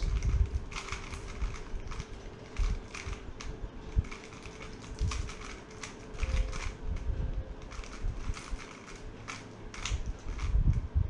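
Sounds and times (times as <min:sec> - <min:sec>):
puzzle cube clicking: 0:00.0 - 0:06.8, 0:07.6 - 0:10.6.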